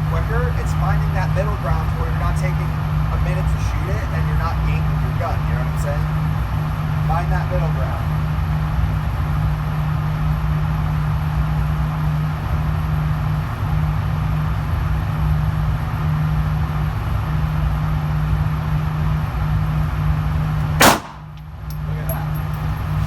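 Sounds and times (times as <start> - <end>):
ventilation hum and rushing air: 0.0 - 23.0.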